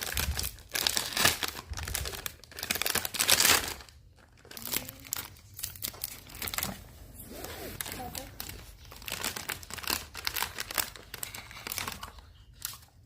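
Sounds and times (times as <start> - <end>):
packaging crinkling: 0.0 - 6.9, 7.7 - 12.8.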